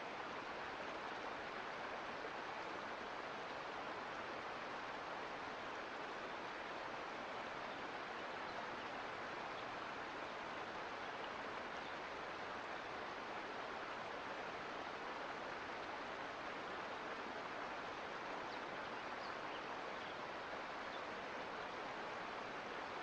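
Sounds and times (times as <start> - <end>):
creek water rushing and babbling: 0.0 - 23.0.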